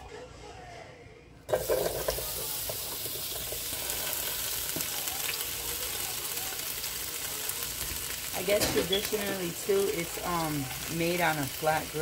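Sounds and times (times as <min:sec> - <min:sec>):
onions sizzling in hot oil: 0:01.5 - 0:12.0.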